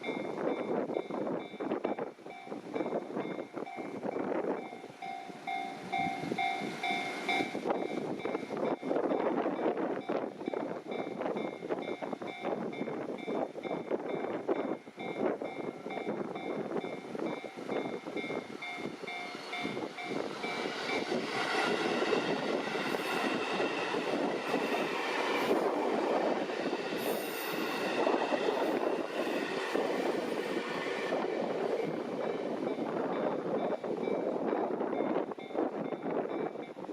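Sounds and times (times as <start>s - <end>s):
train rumble and wheel noise: 0.0s - 36.9s.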